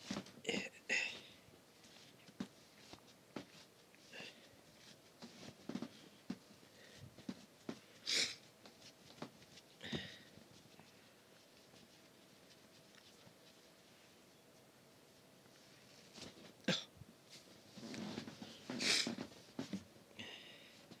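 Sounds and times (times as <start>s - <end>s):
fabric rustling: 1.6s - 16.6s, 17.2s - 19.9s.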